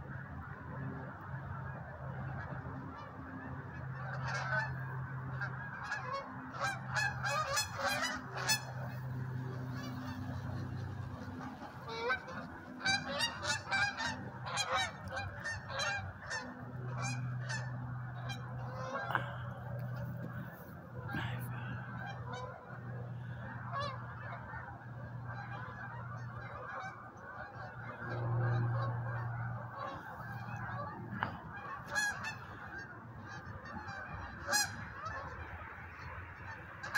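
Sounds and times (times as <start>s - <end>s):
geese honking: 0.0s - 36.9s.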